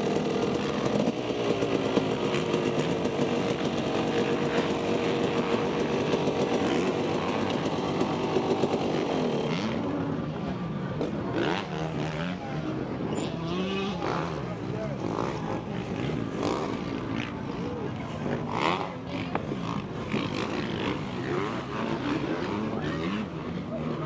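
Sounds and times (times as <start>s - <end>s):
two-stroke motorcycle engine running: 0.0s - 12.2s, 13.6s - 24.0s.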